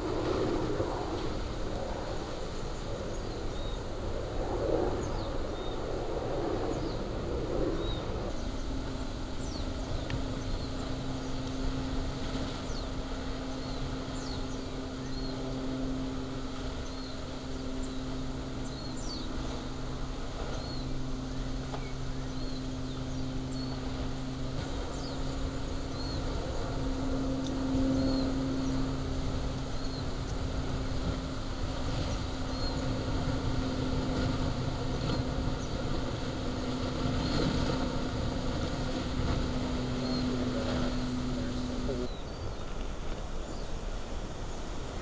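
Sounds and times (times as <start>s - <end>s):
steady low hum: 0.0s - 45.0s
small birds chirping: 7.8s - 43.8s.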